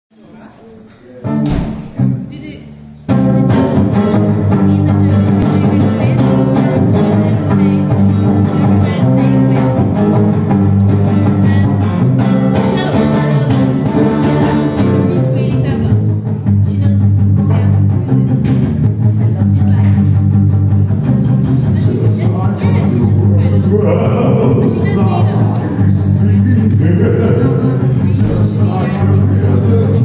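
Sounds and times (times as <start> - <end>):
acoustic guitar strumming: 1.2 - 30.0.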